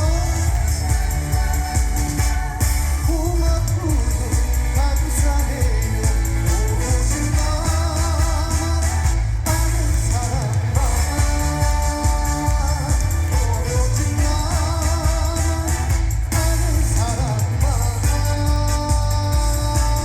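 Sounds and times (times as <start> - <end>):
band with heavy bass beat: 0.0 - 20.0
person singing: 0.0 - 20.0.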